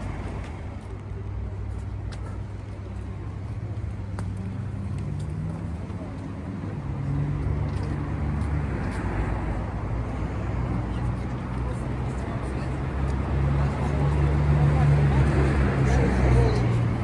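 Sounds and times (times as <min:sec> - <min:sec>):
road noise: 0:00.0 - 0:17.0
vehicle engine humming: 0:00.0 - 0:17.0.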